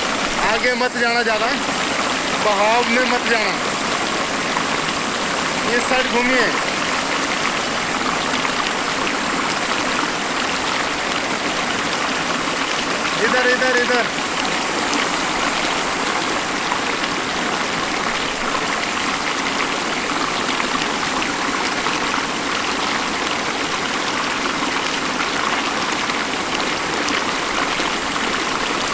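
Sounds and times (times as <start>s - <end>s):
river current rushing: 0.0s - 28.9s.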